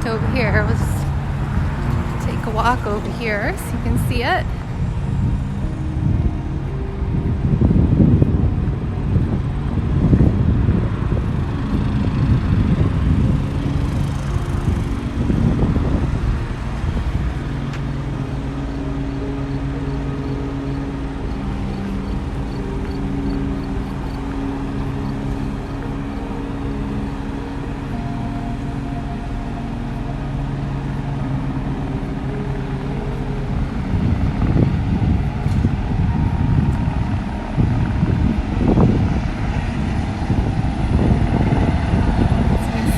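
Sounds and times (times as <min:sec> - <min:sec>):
helicopter engine hum: 0:00.0 - 0:42.9
wind rumble on microphone: 0:00.0 - 0:42.9.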